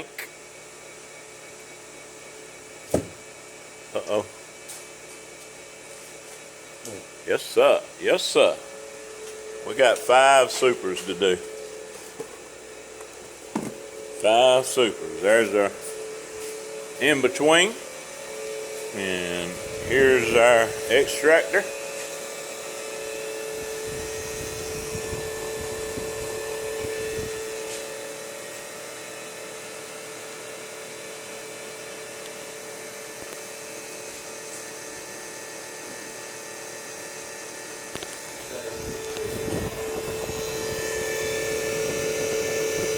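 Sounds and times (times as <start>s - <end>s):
electric motor whining: 6.8s - 42.9s.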